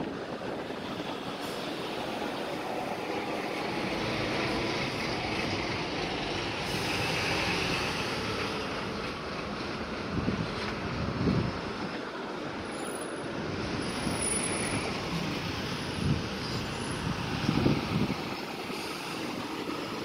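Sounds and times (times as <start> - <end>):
cars and buses passing: 0.0 - 20.0.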